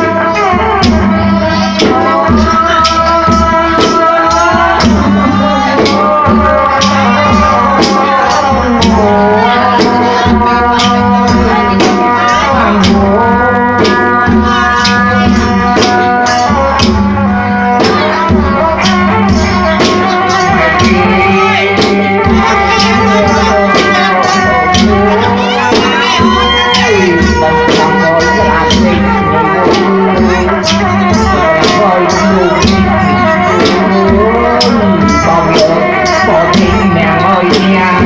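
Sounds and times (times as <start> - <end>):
low drum: 0.0 - 38.0
sharp percussion strikes: 0.0 - 38.0.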